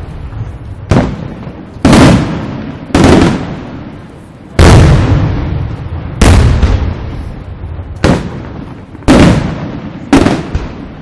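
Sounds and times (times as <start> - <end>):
firework shells booming: 0.8 - 11.0.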